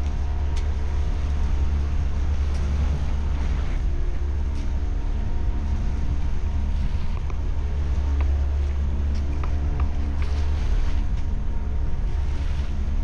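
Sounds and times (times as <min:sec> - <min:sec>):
motorboat engine running: 0:00.0 - 0:13.0
wind rumble on microphone: 0:00.0 - 0:13.0.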